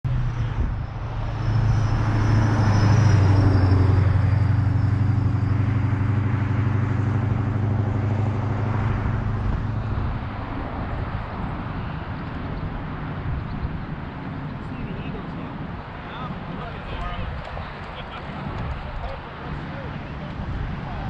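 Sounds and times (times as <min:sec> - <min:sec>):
noisy rush: 0:00.0 - 0:21.0
vehicle engine droning: 0:00.0 - 0:21.0.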